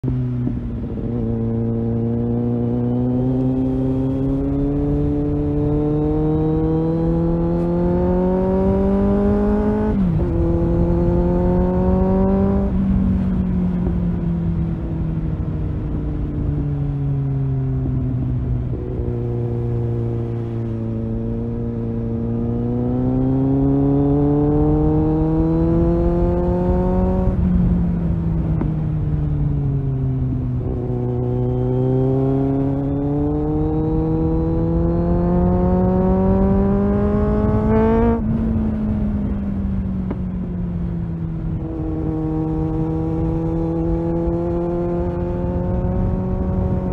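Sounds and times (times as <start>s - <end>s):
motorcycle engine accelerating: 0.0s - 46.9s
road rumble: 0.0s - 46.9s
wind: 0.0s - 46.9s.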